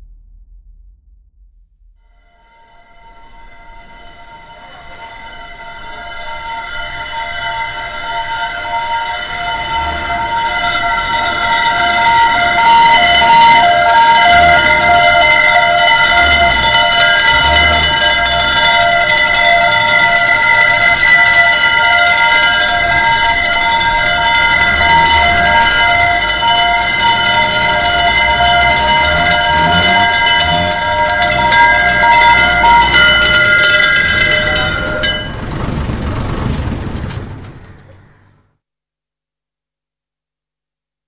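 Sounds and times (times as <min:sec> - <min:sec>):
truck engine rumble: 0:00.0 - 0:38.5
fire engine bell ringing: 0:02.2 - 0:37.9.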